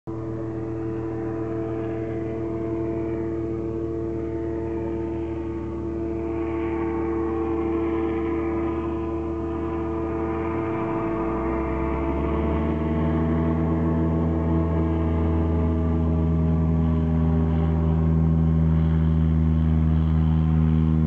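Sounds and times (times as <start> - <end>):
propeller plane engine: 0.0 - 21.0.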